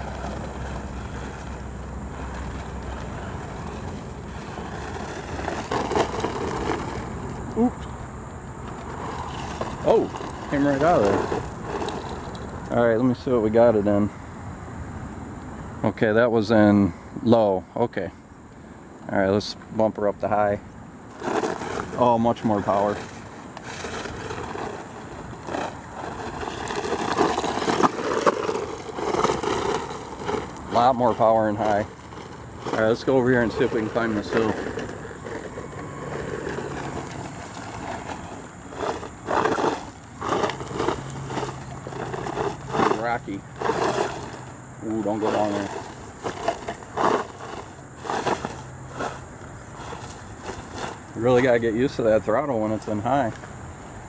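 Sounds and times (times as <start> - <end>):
toy truck motor and tyres on dirt: 0.0 - 54.0.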